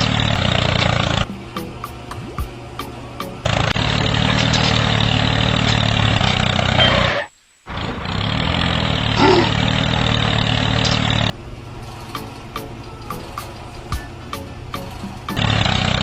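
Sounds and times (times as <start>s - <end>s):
tractor engine running: 0.0s - 1.6s, 3.4s - 12.8s, 13.4s - 16.0s.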